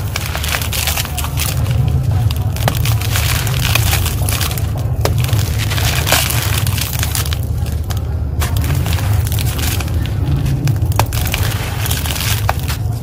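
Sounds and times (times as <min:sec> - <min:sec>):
concrete crunching by hand: 0:00.0 - 0:13.0
grit falling into plastic basket: 0:00.0 - 0:13.0
low rumble: 0:00.0 - 0:13.0.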